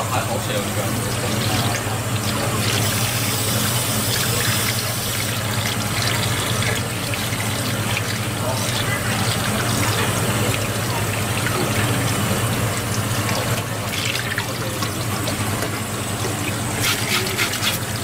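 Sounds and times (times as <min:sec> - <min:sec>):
tap water splashing: 0:01.1 - 0:18.0.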